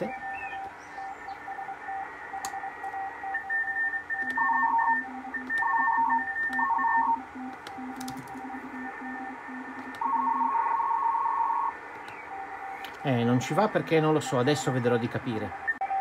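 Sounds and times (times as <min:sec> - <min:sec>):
radio band hiss: 0:00.0 - 0:02.8, 0:04.4 - 0:15.8
morse code beeping: 0:00.0 - 0:16.0.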